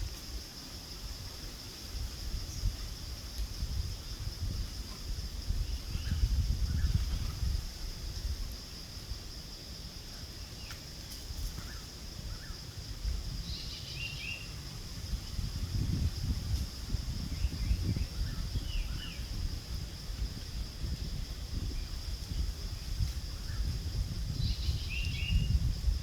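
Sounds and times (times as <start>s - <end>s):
high insect drone: 0.0s - 26.0s
wind rumbling on microphone: 0.0s - 26.0s.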